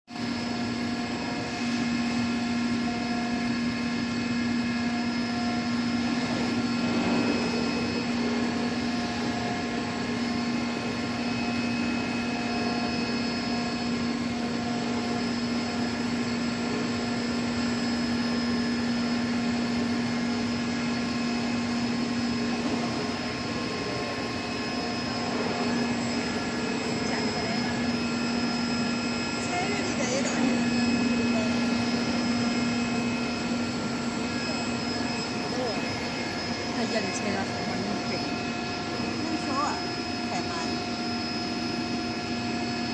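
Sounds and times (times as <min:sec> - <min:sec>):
cutting machine humming: 0:00.1 - 0:42.9.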